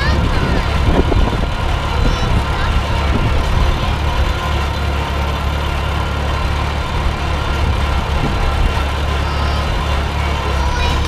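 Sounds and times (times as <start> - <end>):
tractor engine running steadily: 0.0 - 11.0.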